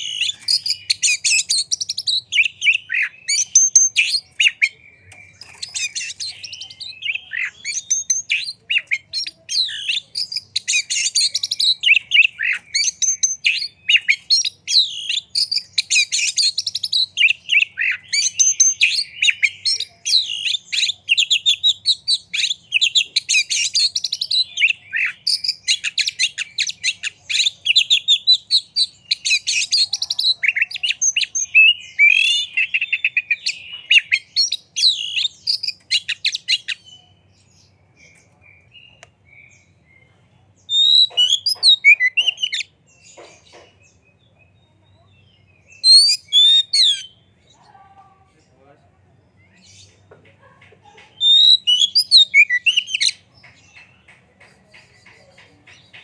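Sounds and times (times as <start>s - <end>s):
bird singing whistled notes: 0.0s - 42.7s, 43.9s - 47.5s, 51.2s - 53.2s.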